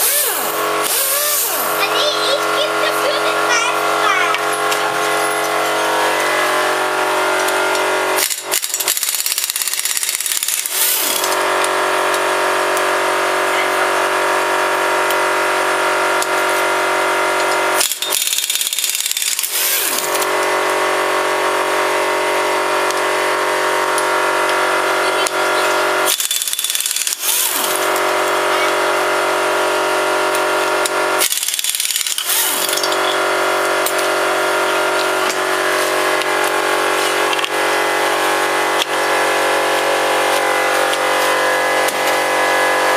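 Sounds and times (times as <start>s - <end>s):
air compressor humming and hissing: 0.0s - 42.9s.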